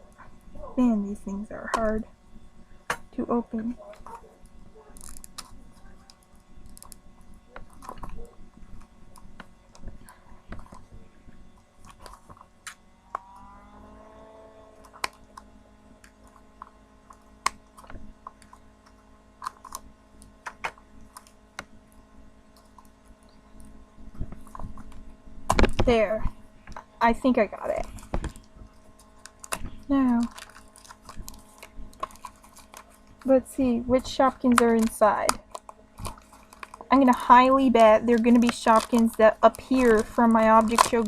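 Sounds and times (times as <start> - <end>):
faint steady hum: 0.0 - 41.0
plastic packaging crinkling and snapping: 3.8 - 13.3, 14.8 - 27.0, 27.6 - 41.0.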